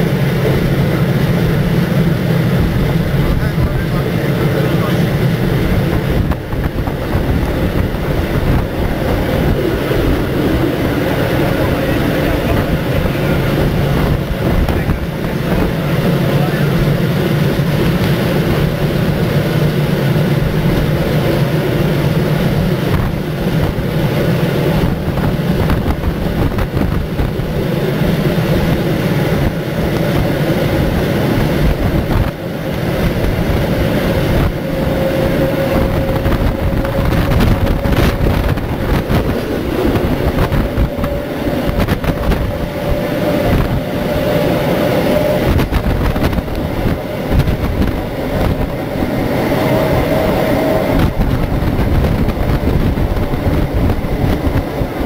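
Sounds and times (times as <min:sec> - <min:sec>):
train carriages running on rails: 0:00.0 - 0:55.0.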